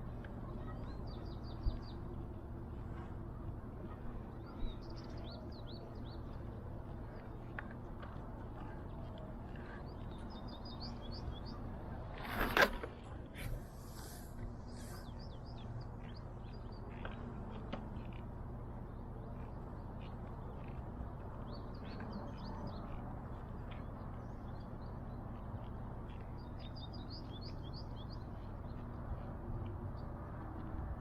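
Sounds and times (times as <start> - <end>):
low outdoor rumble: 0.0 - 31.0
small birds chirping: 0.2 - 2.7, 3.9 - 7.7, 9.5 - 11.8, 13.7 - 30.8.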